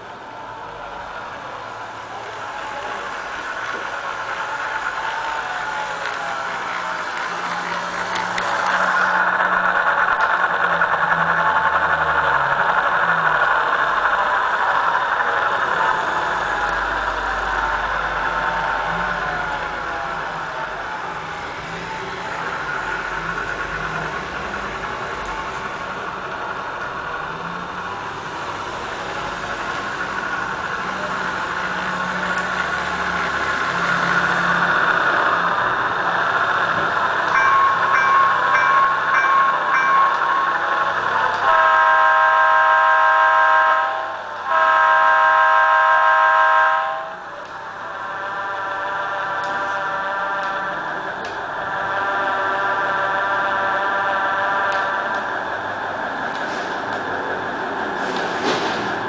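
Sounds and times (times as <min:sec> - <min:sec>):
simulated diesel engine running: 0:00.0 - 0:59.0.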